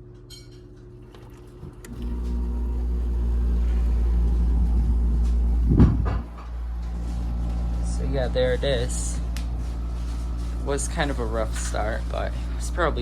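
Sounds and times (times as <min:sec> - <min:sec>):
air conditioner compressor humming: 0:00.0 - 0:13.0.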